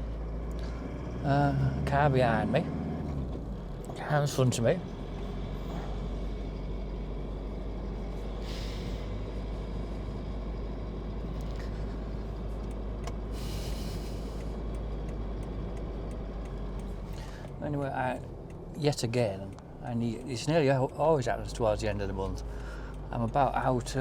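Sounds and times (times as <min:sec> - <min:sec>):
car engine and tyre drone: 0:00.0 - 0:24.0.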